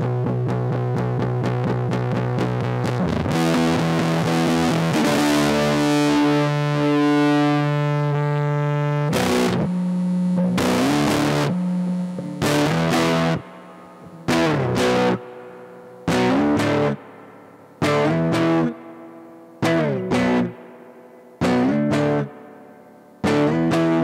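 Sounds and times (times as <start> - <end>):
fuzzy electric guitar: 0.0 - 24.0.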